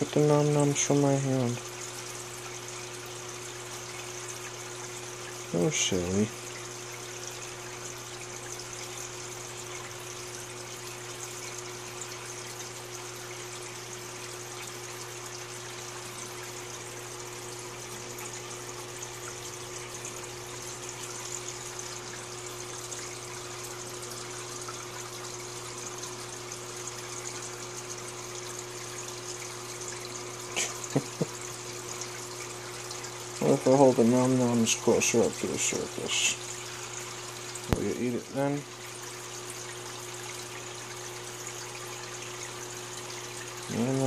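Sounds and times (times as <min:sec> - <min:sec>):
aquarium filter hum: 0:00.0 - 0:44.0
water trickling: 0:00.0 - 0:44.0.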